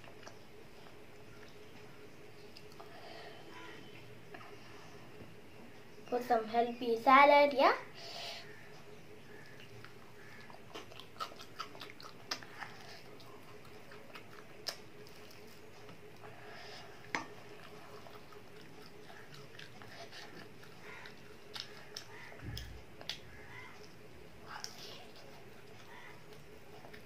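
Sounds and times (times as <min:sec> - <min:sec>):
child chewing: 0:00.0 - 0:05.0, 0:08.0 - 0:27.0
faint steady hum: 0:00.0 - 0:27.0.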